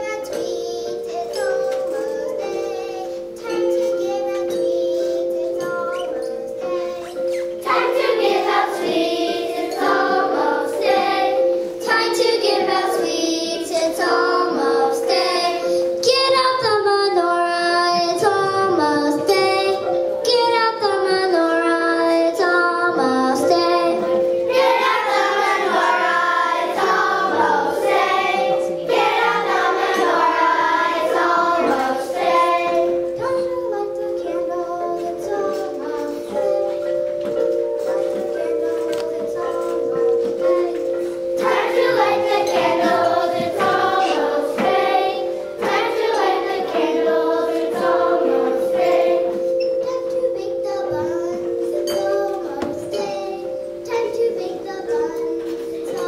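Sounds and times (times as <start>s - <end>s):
children's choir singing: 0.0s - 56.0s
xylophone and metallophone: 0.0s - 56.0s.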